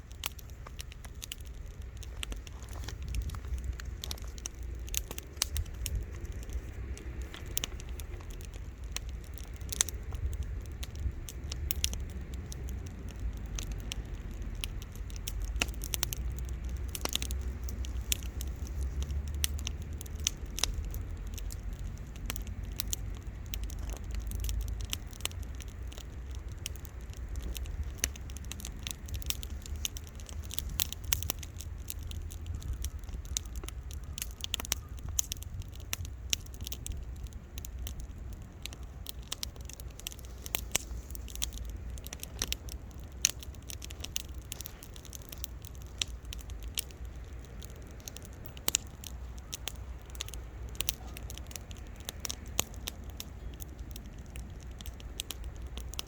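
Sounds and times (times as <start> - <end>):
sharp pops and snaps: 0.0 - 56.0
steady low rumble: 0.0 - 56.0
wood fire crackling: 0.0 - 56.0.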